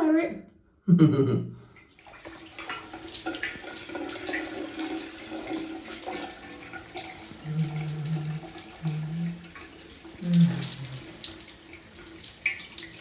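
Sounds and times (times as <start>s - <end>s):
water splashes and drips: 1.8s - 13.0s
water running from a tap: 2.0s - 13.0s.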